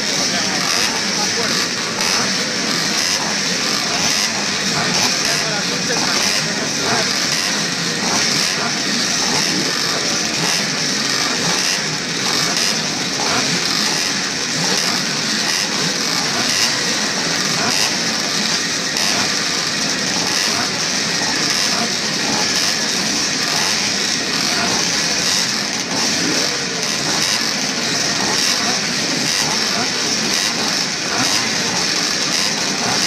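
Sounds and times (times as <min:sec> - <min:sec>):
motocross bike engines idling and blipping: 0:00.0 - 0:33.0.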